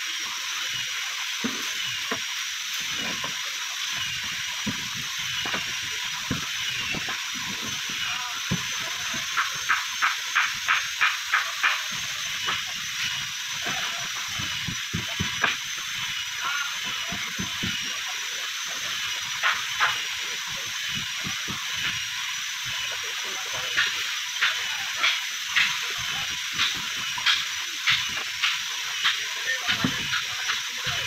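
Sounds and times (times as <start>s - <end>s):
steady high hiss: 0.0s - 31.0s.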